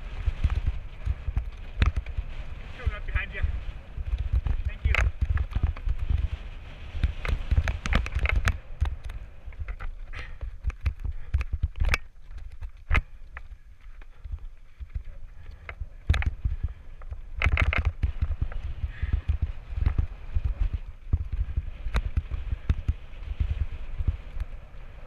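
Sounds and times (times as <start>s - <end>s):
bike rattling and knocking: 0.0s - 25.0s
wind rumble on microphone: 0.0s - 25.0s.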